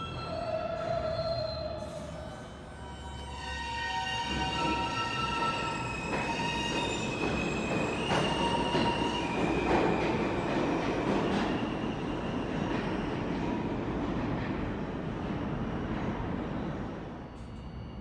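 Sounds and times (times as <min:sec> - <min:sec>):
subway train wheels rumbling on rail: 0:00.0 - 0:18.0.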